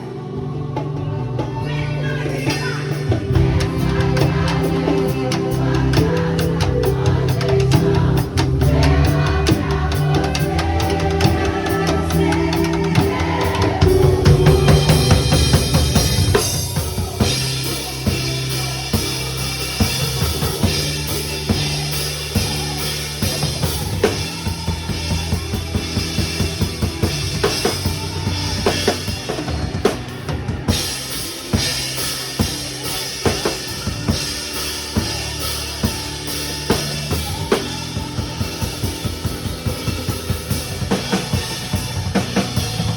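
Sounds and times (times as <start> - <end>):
drum kit playing: 0.0 - 42.9
recorded worship song: 0.0 - 42.9.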